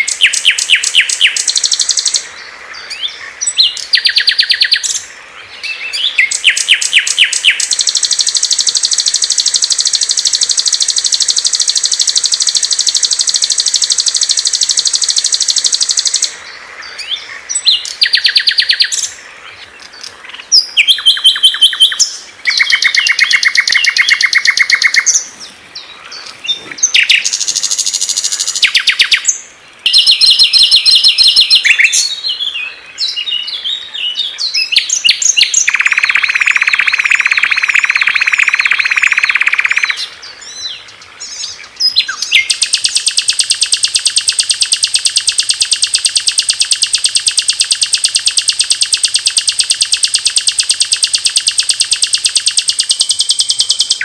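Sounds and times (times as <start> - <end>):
fast even bird trill: 0.0 - 2.2, 3.4 - 5.0, 5.9 - 16.4, 17.5 - 19.1, 20.5 - 25.3, 26.8 - 32.2, 34.6 - 40.1, 42.0 - 54.0
songbirds trilling and chattering: 0.0 - 54.0.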